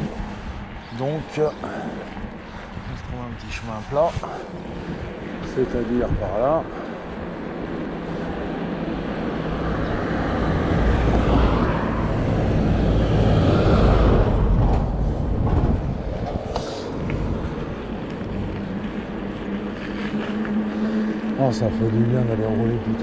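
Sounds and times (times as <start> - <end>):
wind rush: 0.0 - 21.8
bike tyre rumble on dirt: 0.0 - 23.0.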